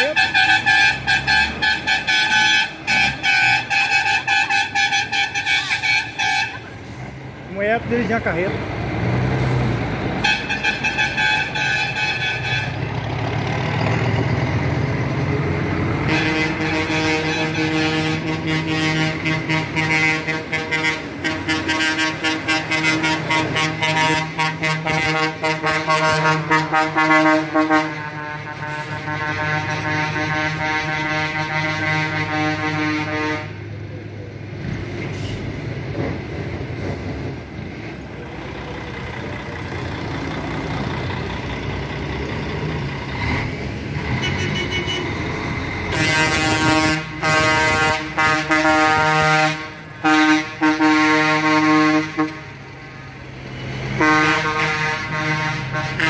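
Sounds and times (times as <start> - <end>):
truck horns honking: 0.0 - 33.9, 38.7 - 56.0
trucks driving past: 0.0 - 56.0.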